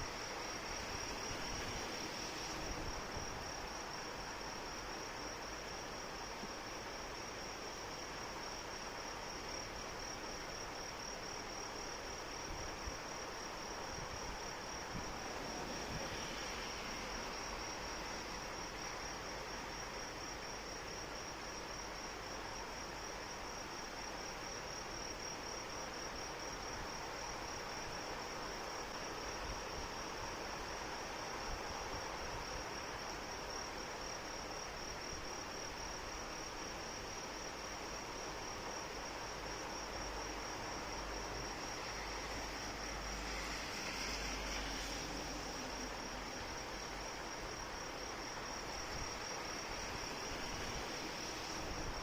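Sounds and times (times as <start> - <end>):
steady rain falling: 0.0 - 24.4, 25.1 - 52.0
crickets trilling: 0.0 - 52.0.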